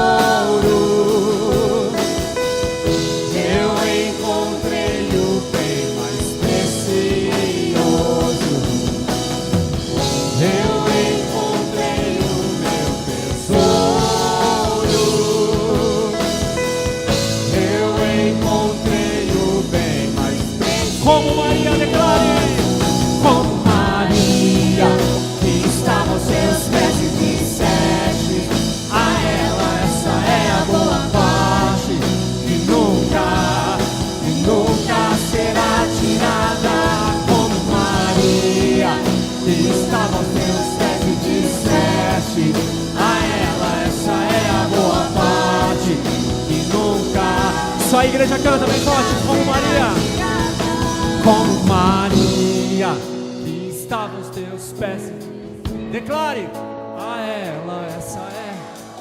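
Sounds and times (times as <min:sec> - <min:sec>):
person singing: 0:00.0 - 0:59.0
worship band playing: 0:00.0 - 0:59.0.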